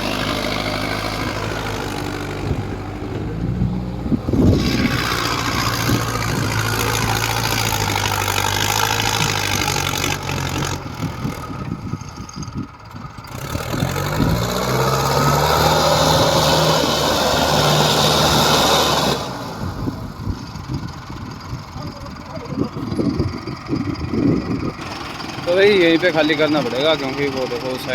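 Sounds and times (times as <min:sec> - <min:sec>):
tractor diesel engine labouring: 0:00.0 - 0:27.9.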